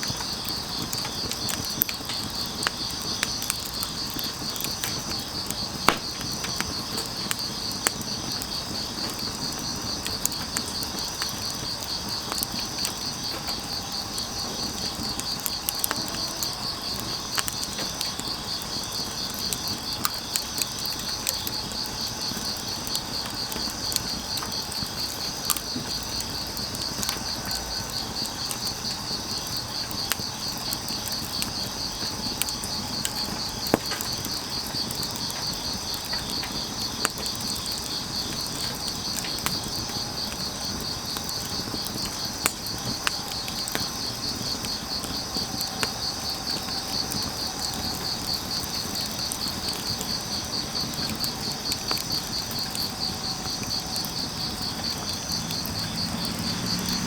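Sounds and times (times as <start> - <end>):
firewood crackling and popping: 0.0 - 57.0
insects trilling: 0.0 - 57.0.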